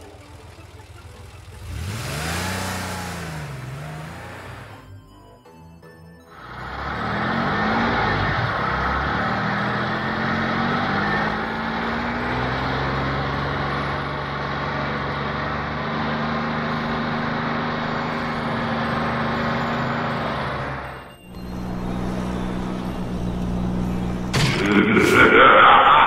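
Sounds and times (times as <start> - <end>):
car engine revving: 0.0 - 4.9, 6.3 - 26.0.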